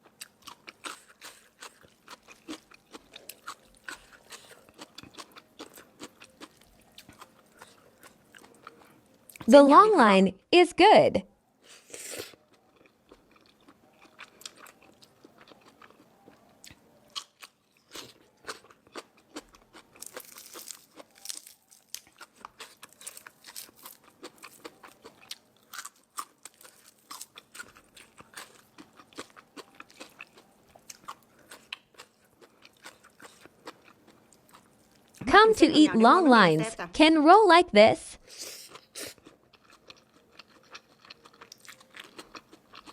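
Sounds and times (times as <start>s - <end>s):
crunching and chewing crisp food: 0.0s - 9.4s, 11.7s - 35.2s, 38.2s - 42.9s.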